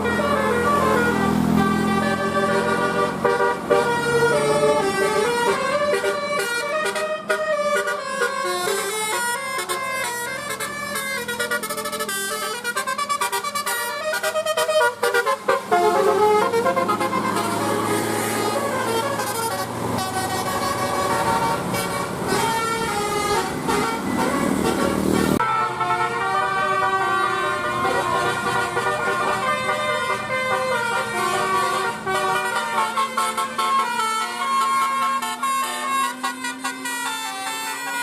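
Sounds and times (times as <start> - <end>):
multi-tone musical bus horn: 0.0 - 38.0.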